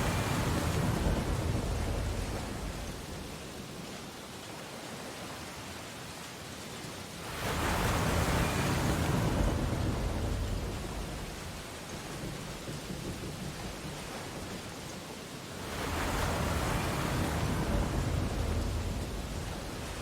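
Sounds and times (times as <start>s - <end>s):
surf washing on a beach: 0.0s - 20.0s.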